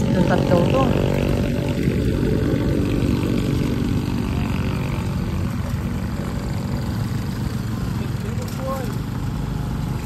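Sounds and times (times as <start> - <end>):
car engine: 0.0 - 10.0
motorcycles: 0.0 - 10.0.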